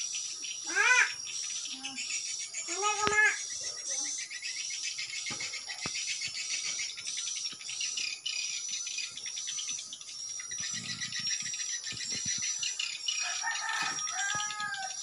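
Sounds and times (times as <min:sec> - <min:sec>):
thin steady high tone: 0:00.0 - 0:15.0.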